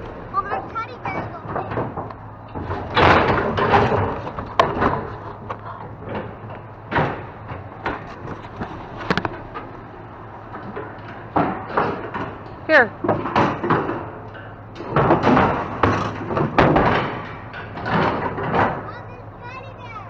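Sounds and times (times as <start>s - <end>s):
rummaging through dumpster: 0.0s - 20.0s
sharp knocks: 0.4s - 9.7s, 10.5s - 19.0s.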